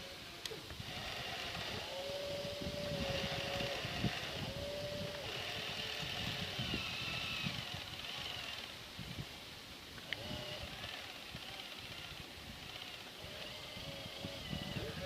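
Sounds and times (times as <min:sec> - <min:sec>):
model excavator motors whining: 0:00.0 - 0:08.8, 0:10.0 - 0:15.0
wind noise on microphone: 0:00.0 - 0:15.0.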